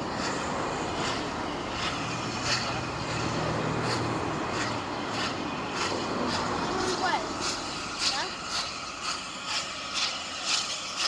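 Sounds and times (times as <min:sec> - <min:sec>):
steam locomotive exhaust beats: 0:00.0 - 0:11.0.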